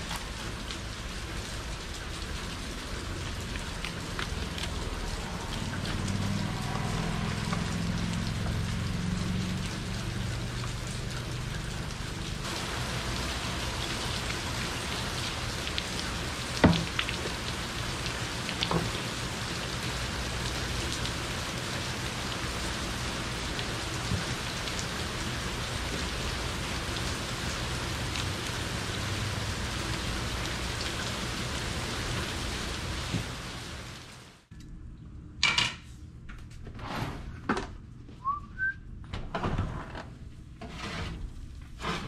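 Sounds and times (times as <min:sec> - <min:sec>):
torrential rain: 0:00.0 - 0:34.5.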